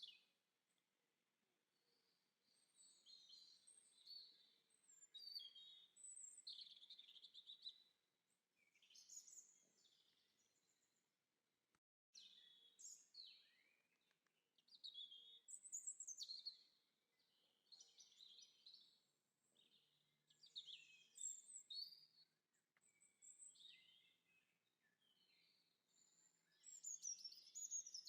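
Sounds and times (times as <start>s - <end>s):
songbirds chirping and singing: 1.8s - 7.9s, 8.6s - 10.9s, 12.2s - 28.0s.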